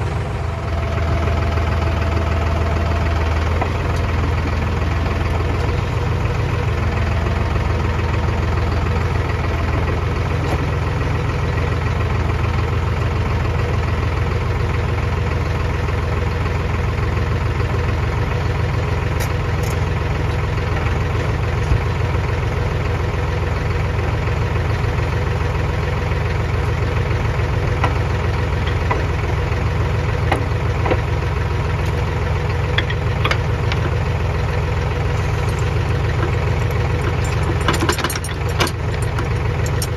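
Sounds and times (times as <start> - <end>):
large engine running with deep rumble: 0.0 - 39.9.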